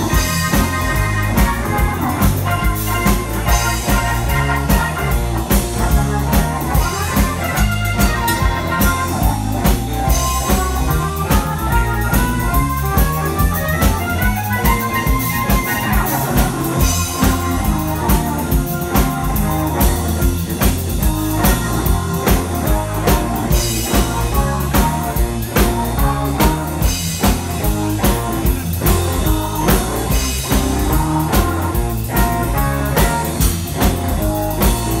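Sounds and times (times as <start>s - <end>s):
live blues band playing: 0.0s - 35.0s
run of rising notes: 0.0s - 35.0s.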